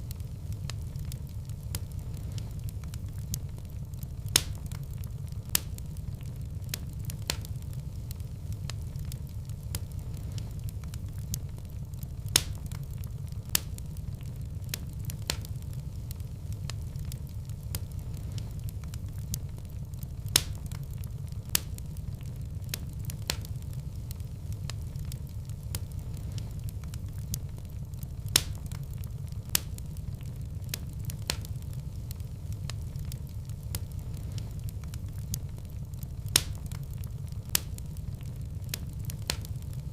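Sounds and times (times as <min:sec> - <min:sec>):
fire crackling and popping: 0:00.0 - 0:39.9
wood fire rumble: 0:00.0 - 0:39.9.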